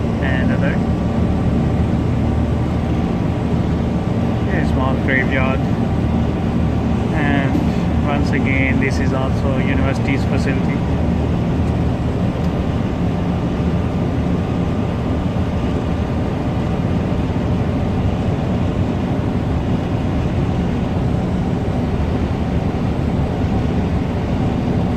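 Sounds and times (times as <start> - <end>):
vehicle interior low rumble: 0.0 - 24.9.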